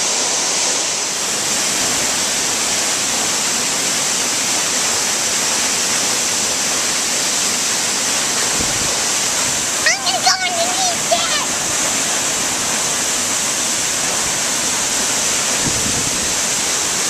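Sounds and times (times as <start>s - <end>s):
waterfall rushing onto rocks: 0.0s - 17.0s.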